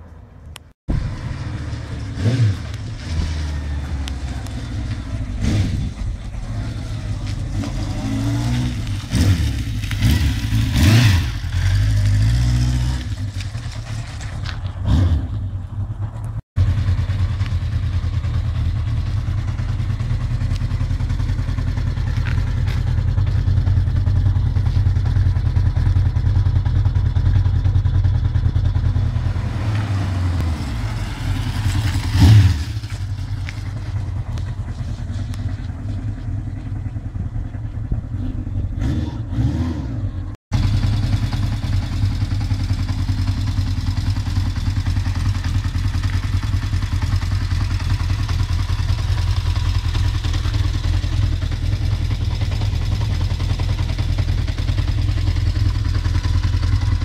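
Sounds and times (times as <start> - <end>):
motorcycle engine revving: 0.9 - 57.0.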